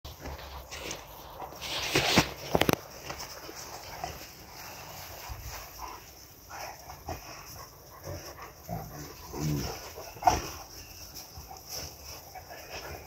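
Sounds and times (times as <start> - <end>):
dogs playing: 0.1 - 13.0.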